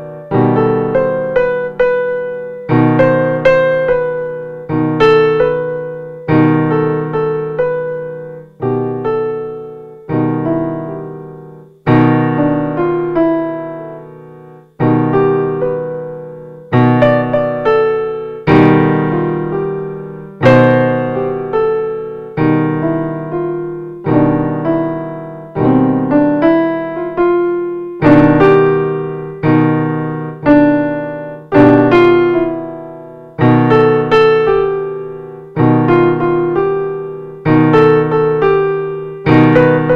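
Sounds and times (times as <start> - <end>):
slow piano chords: 0.0 - 39.9.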